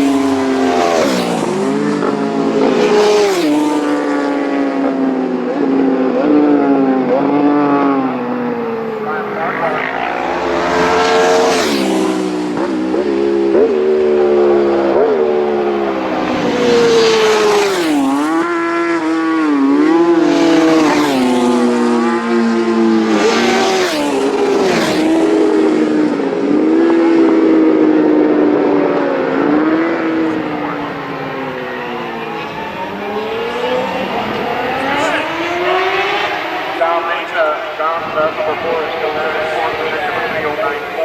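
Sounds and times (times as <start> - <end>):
racing motorcycles passing: 0.0 - 41.0.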